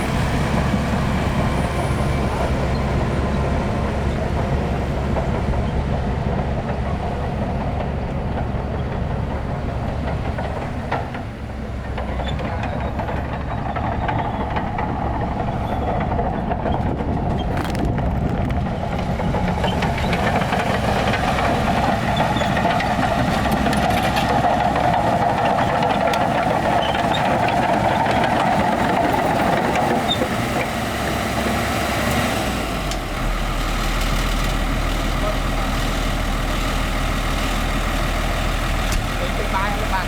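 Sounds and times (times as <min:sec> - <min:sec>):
diesel earthmoving machinery running: 0:00.0 - 0:40.0.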